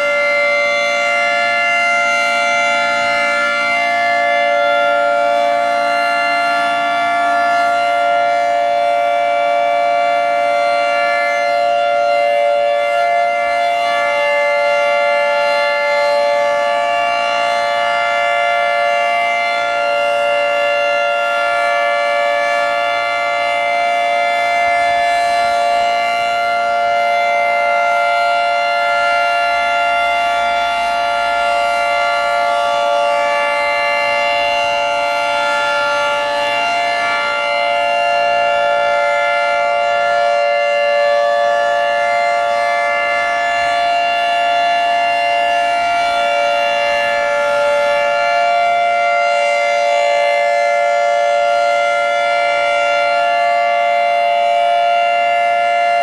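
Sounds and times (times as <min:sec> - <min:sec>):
warning sirens steady tone: 0:00.0 - 0:56.0.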